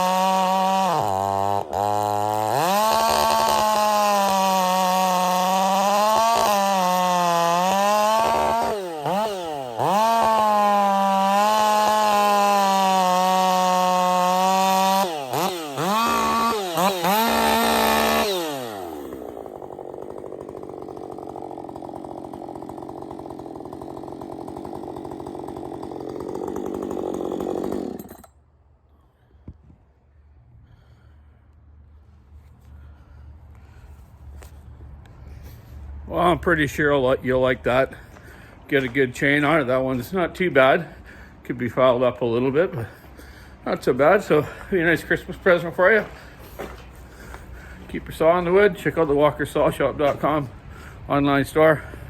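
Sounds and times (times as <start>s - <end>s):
chainsaw revving and idling: 0.0s - 28.4s, 36.1s - 52.0s.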